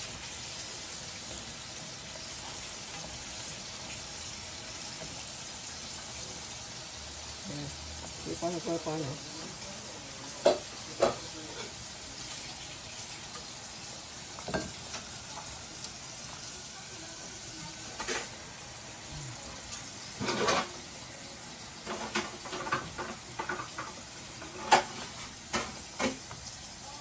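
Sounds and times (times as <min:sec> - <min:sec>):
shrimp sizzling in hot oil: 0:00.0 - 0:27.0.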